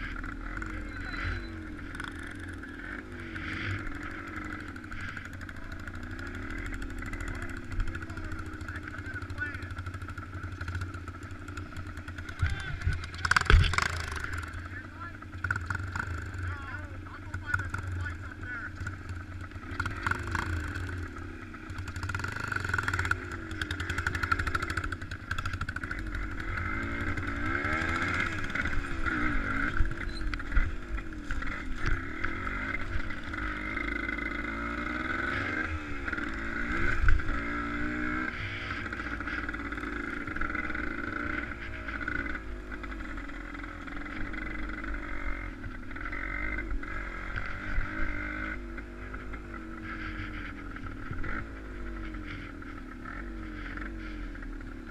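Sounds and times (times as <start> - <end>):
engine revving: 0.0 - 54.9.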